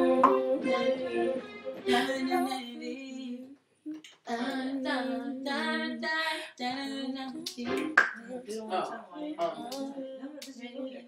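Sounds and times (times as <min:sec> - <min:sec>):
woman singing long notes: 0:00.0 - 0:11.0.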